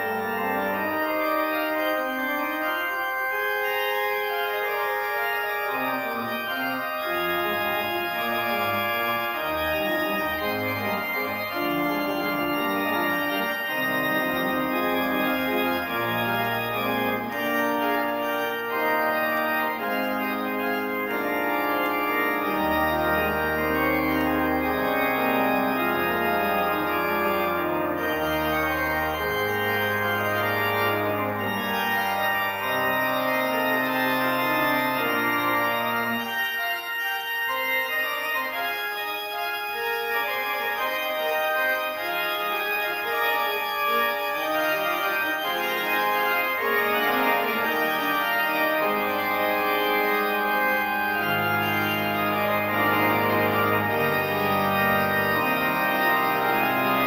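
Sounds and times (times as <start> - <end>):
low organ bass notes: 0.0 - 36.5, 39.4 - 57.0
organ chords: 0.0 - 57.0.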